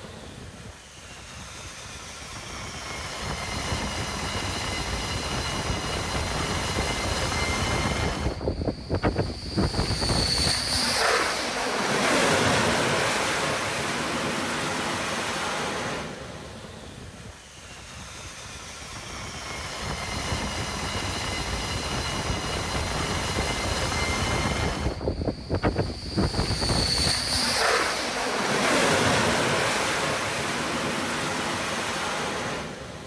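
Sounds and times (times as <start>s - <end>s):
high turbine whine: 0.0s - 33.0s
jet engines roaring: 0.0s - 33.0s.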